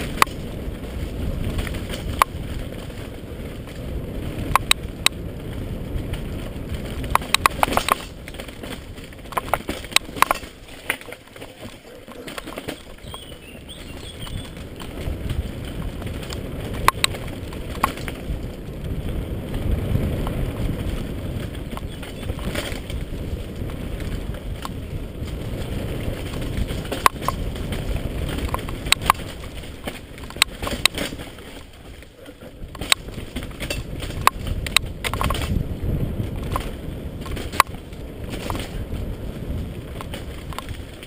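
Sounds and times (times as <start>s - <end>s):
bike clacking over bumps: 0.0s - 41.0s
bike tyres rumbling over dirt: 0.0s - 41.0s.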